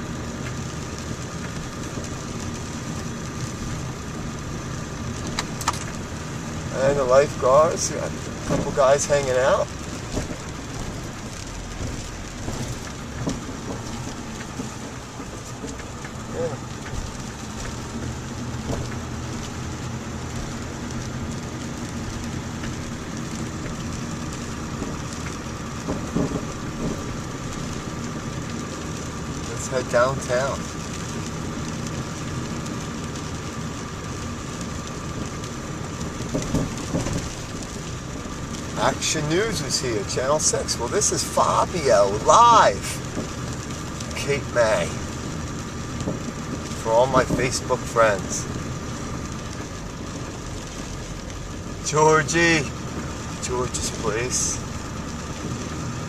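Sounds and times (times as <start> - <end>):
car engine hum: 0.0 - 56.0
road noise: 0.0 - 56.0.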